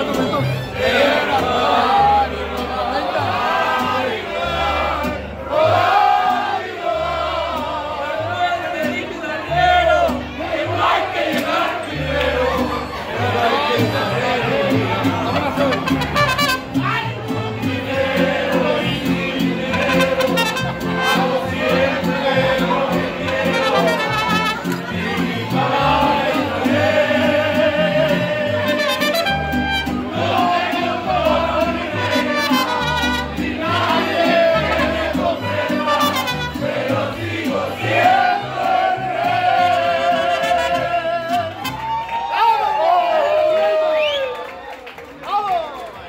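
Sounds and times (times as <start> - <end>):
strummed guitars: 0.0 - 42.0.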